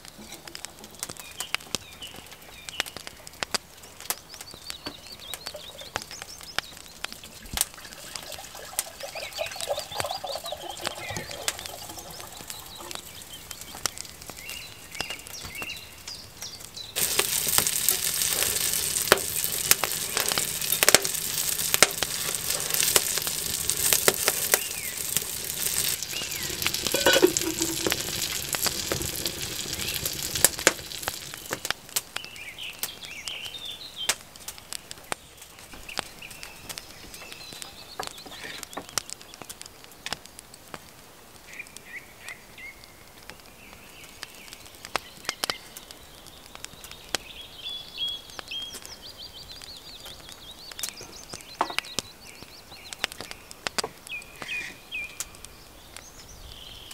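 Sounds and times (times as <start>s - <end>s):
fritters sizzling in oil: 0.0s - 56.9s
birds chirping: 1.0s - 39.5s, 41.5s - 56.9s.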